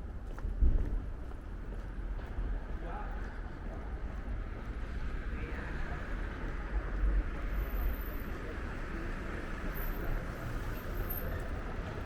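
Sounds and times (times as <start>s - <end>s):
passing traffic: 1.9s - 12.0s.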